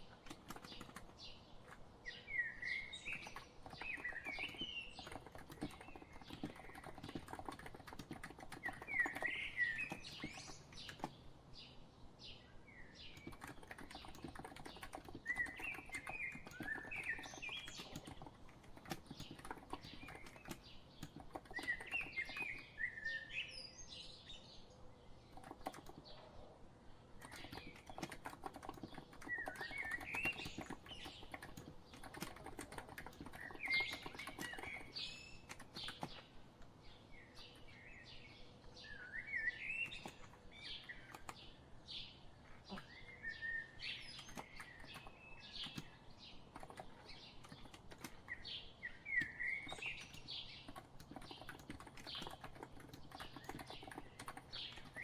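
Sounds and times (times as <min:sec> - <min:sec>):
keyboard typing clicks: 0:00.0 - 0:01.8, 0:03.0 - 0:11.3, 0:13.1 - 0:22.8, 0:25.3 - 0:26.1, 0:27.2 - 0:37.8, 0:39.7 - 0:41.5, 0:43.9 - 0:55.0.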